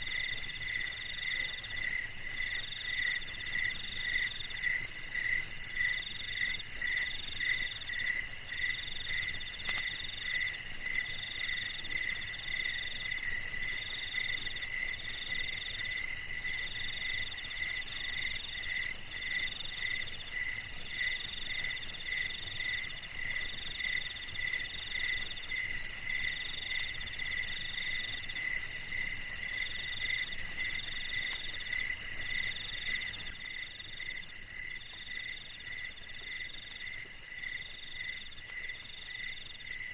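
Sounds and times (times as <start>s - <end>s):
middle-pitched insect trill: 0.0s - 39.9s
slower low insect chirp: 0.0s - 39.9s.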